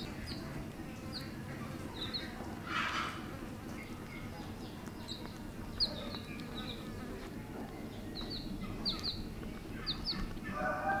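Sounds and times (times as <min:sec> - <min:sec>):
chick peeping: 0:00.0 - 0:11.0
low steady background noise: 0:00.0 - 0:11.0.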